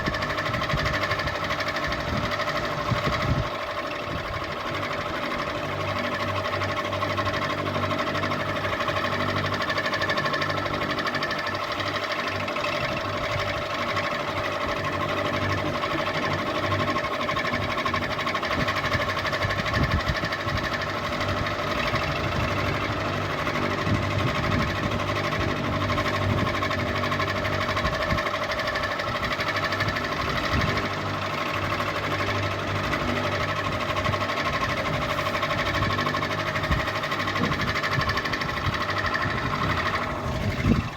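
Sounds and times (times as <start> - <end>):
ceiling fan motor hum: 0.0 - 40.9
fan mechanical clatter: 0.0 - 40.9.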